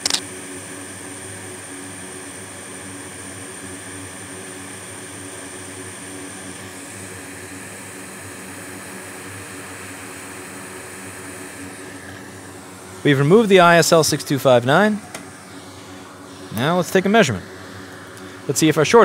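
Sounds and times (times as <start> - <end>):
hot air station blowing: 2.6 - 19.0.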